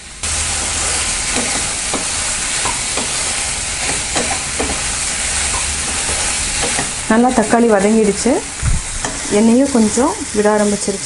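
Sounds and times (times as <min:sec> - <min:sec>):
tomatoes sizzling in oil: 0:00.0 - 0:11.0
spatula scraping pan: 0:00.5 - 0:11.0.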